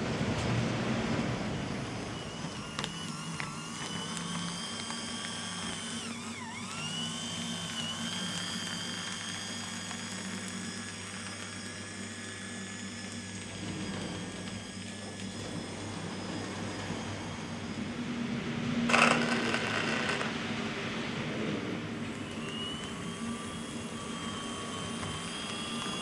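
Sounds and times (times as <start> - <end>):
steady low hum: 0.0 - 26.0
model train motor whining: 1.6 - 17.8, 18.9 - 20.4, 22.0 - 26.0.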